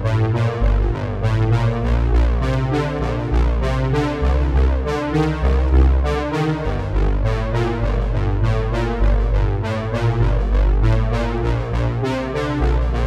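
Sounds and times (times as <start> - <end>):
music with strong bass line: 0.0 - 13.0.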